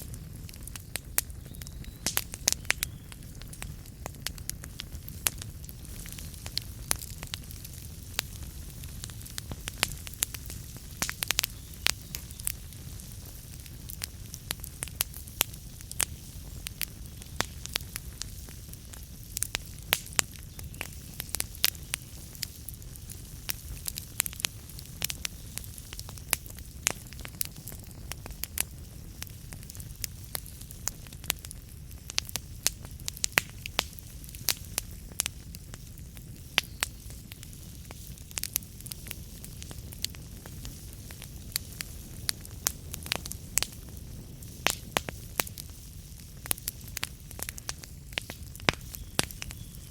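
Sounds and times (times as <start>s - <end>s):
low rumble of flames: 0.0s - 49.9s
wood fire crackling and popping: 0.0s - 49.9s.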